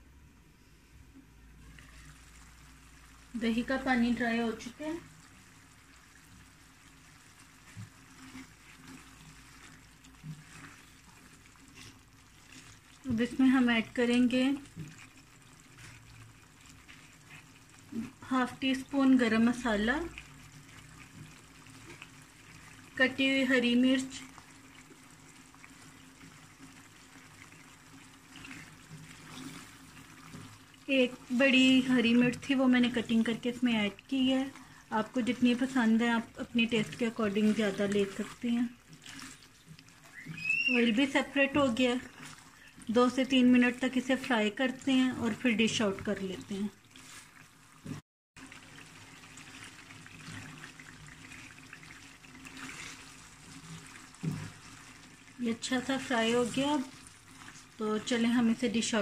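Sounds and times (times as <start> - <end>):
food sizzling in oil: 1.6 - 59.0.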